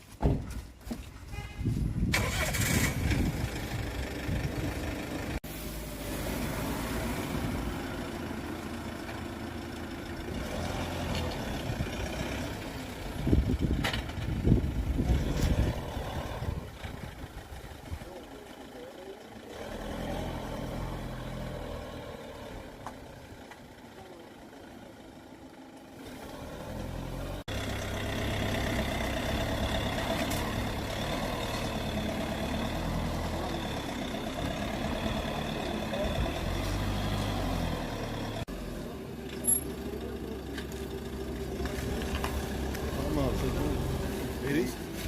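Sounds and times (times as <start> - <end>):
vehicle engine rumble: 0.0 - 45.0.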